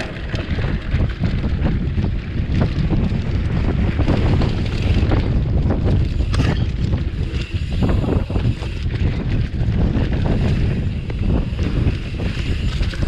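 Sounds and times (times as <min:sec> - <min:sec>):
bike rattles and clicks: 0:00.0 - 0:13.0
bike tyres rolling on dirt: 0:00.0 - 0:13.0
wind buffeting microphone: 0:00.0 - 0:13.0.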